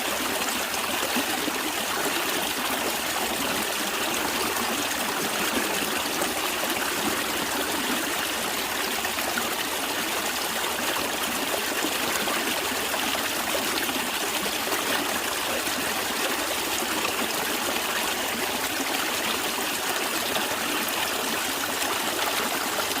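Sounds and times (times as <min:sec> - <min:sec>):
stream babbling over stones: 0:00.0 - 0:23.0.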